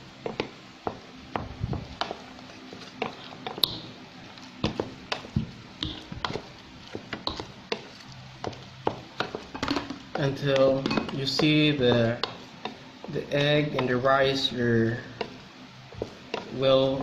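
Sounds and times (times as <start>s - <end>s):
utensil tapping bowl: 0.2s - 2.2s, 2.8s - 3.9s, 4.6s - 17.0s
utensil stirring rice in bowl: 0.2s - 17.0s.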